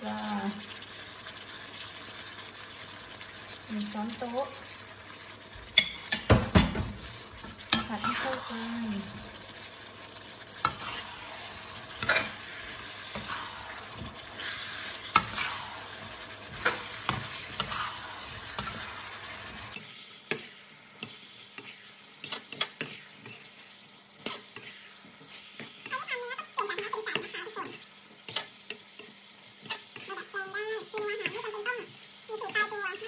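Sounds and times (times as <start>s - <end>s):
frying sizzle: 0.0s - 33.0s
spatula scraping and knocking wok: 5.5s - 33.0s.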